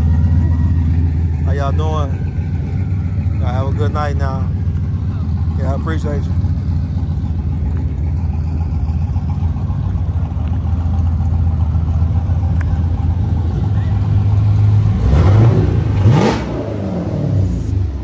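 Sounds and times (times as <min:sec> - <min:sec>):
car engine rumbling and revving: 0:00.0 - 0:18.0.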